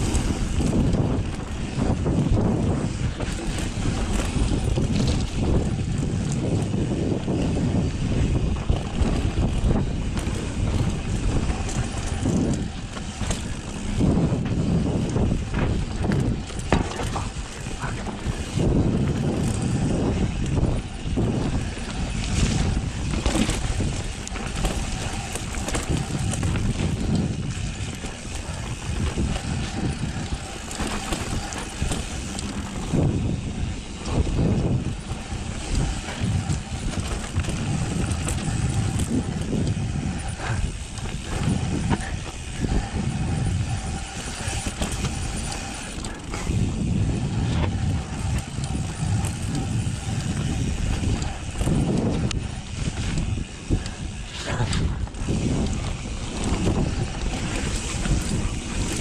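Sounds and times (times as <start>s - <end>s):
bike rattling and knocking: 0.0s - 59.0s
bike tyres on dirt: 0.0s - 59.0s.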